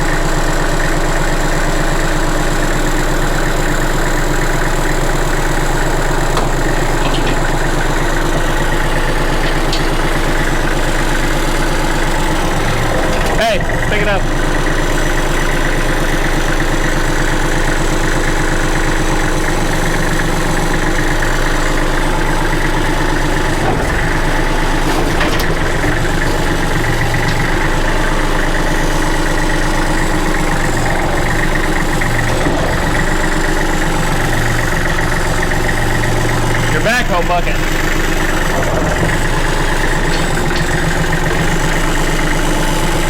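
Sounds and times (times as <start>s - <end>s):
backhoe engine idling: 0.0s - 43.0s.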